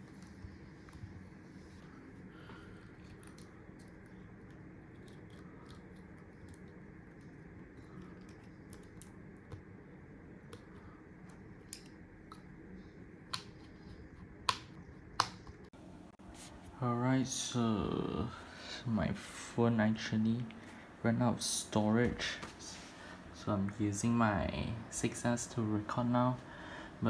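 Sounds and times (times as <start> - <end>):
faint room noise: 0.0 - 27.0.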